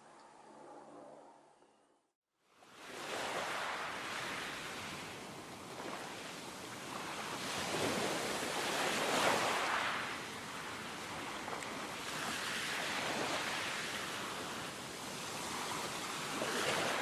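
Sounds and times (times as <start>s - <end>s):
sea surf washing ashore: 2.7s - 17.0s.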